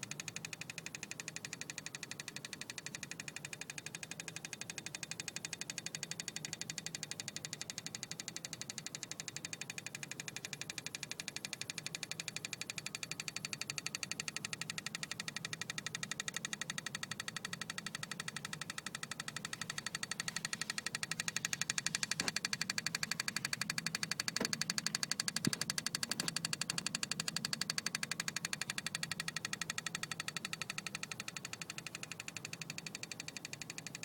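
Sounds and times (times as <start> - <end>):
rapid ticking from engine bay: 0.0 - 34.0.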